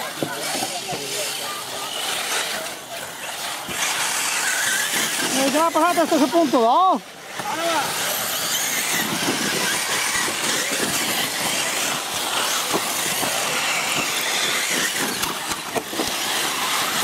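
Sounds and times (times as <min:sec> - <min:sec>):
model car motors: 0:00.0 - 0:17.0.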